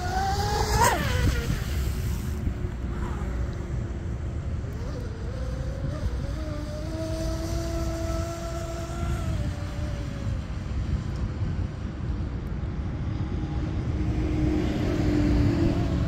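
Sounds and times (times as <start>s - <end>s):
electric motor whine of boat: 0.0s - 16.0s
wind rumble on microphone: 0.0s - 16.0s.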